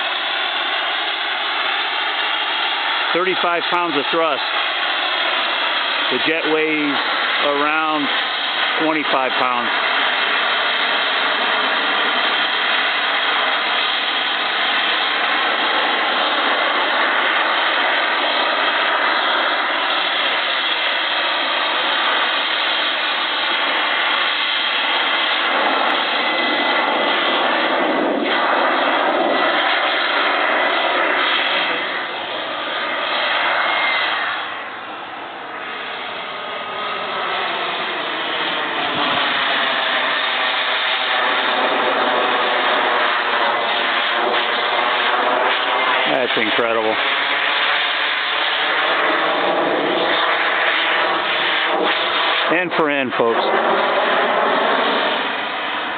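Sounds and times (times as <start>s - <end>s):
model jet turbine rushing whine: 0.0s - 55.9s.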